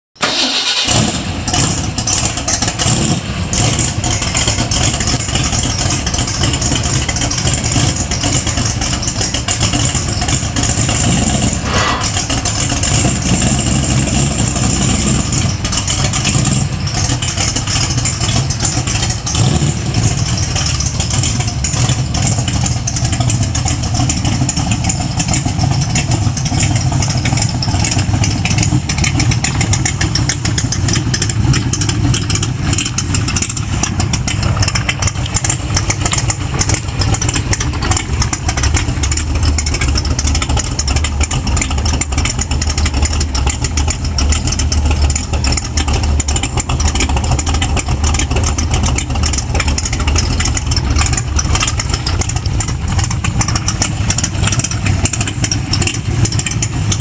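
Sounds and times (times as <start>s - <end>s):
car driving off slowly: 0.2s - 57.0s
car engine idling loudly: 0.2s - 57.0s.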